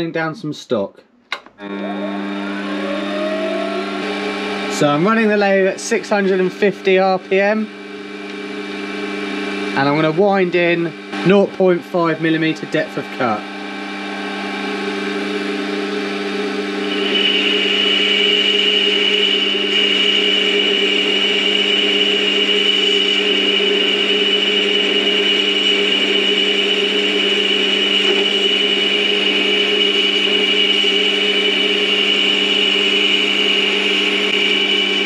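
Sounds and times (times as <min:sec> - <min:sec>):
high steady tone: 0:01.6 - 0:35.0
lathe motor and gear whine: 0:01.6 - 0:35.0.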